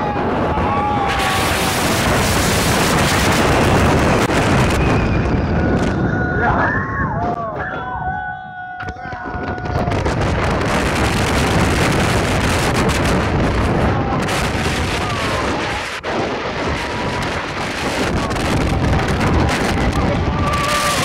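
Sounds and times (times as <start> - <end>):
roller coaster train rumble: 0.0 - 21.0
wind rushing over microphone: 0.0 - 21.0.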